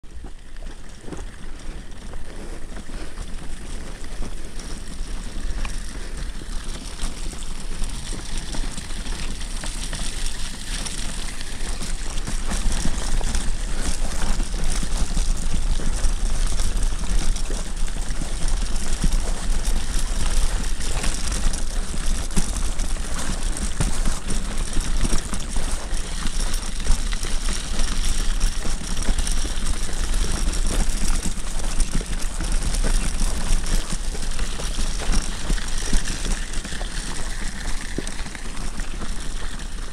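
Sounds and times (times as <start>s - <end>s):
pram rolling on snow: 0.1s - 39.9s.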